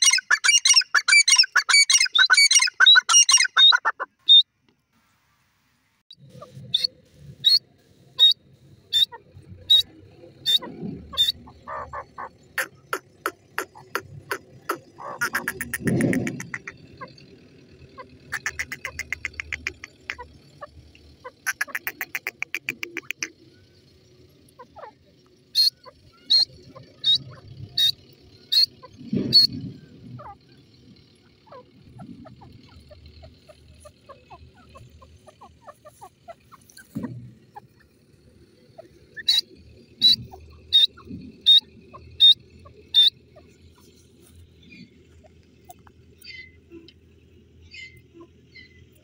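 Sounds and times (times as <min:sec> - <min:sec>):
francolin calling: 0:00.0 - 0:04.4, 0:06.1 - 0:49.0.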